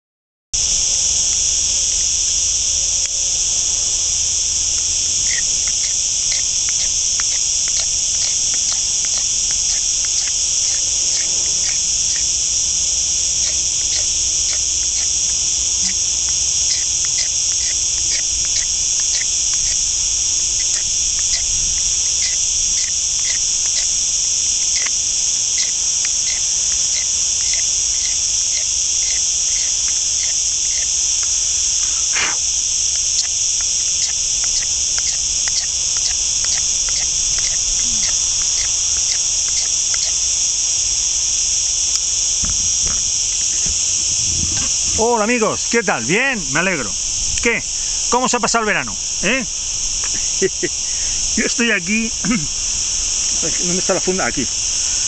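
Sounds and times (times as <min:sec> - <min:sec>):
high-pitched insect chorus: 0:00.6 - 0:55.0
faint regular ticks: 0:00.7 - 0:55.0.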